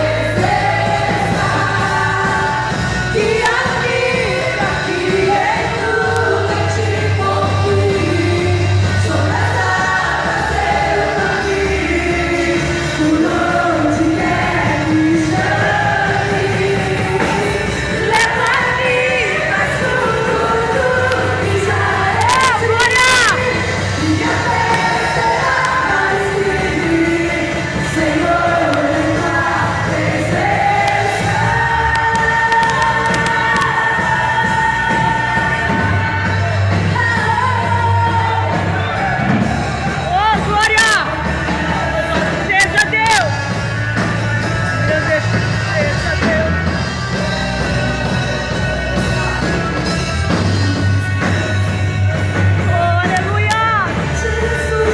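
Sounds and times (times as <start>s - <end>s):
worship music with singing: 0.0s - 54.9s.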